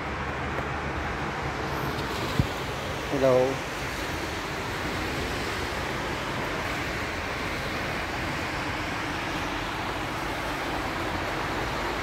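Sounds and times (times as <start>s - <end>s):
city traffic hum: 0.0s - 12.0s.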